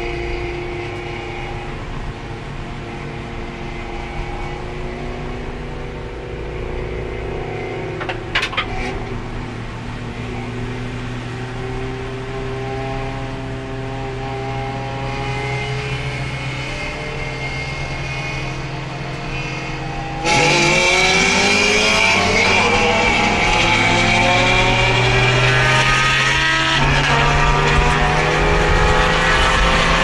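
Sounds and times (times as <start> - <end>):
race car engine revving: 0.0 - 30.0.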